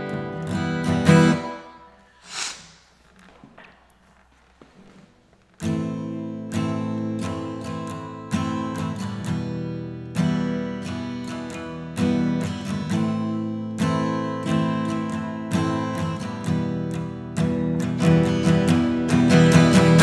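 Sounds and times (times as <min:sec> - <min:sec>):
acoustic guitar strummed chords: 0:00.0 - 0:02.3, 0:05.6 - 0:20.0.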